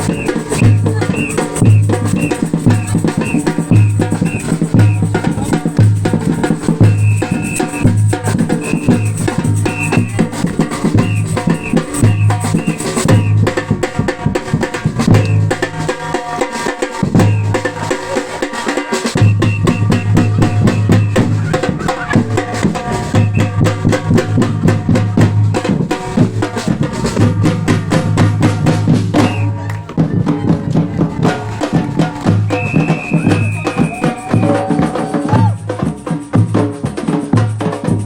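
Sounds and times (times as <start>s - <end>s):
bass drums pounding: 0.0s - 16.4s, 19.2s - 36.6s
percussion band drumming: 0.0s - 38.0s.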